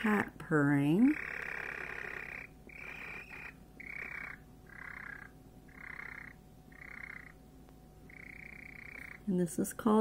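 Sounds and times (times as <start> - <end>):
hen churring trills: 0.0 - 9.3.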